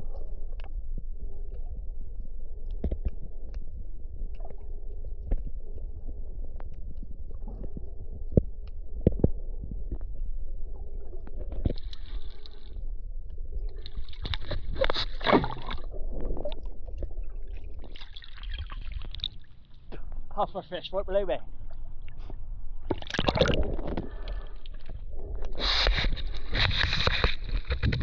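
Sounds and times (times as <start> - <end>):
low underwater rumble: 0.0 - 28.0
water sloshing and gurgling: 0.0 - 28.0.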